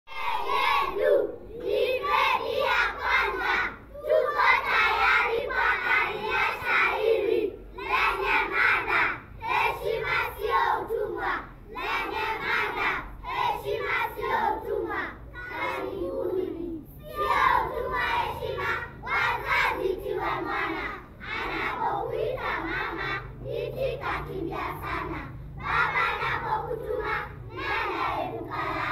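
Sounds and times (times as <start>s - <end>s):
children reciting in unison: 0.1s - 28.9s.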